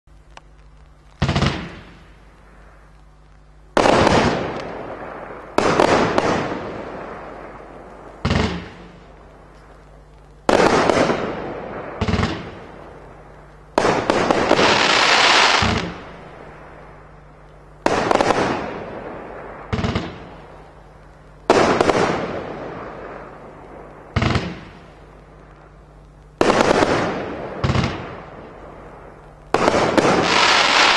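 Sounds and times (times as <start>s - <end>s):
firework bangs: 1.2s - 3.0s, 3.7s - 9.8s, 10.4s - 17.0s, 17.8s - 20.8s, 21.4s - 30.9s.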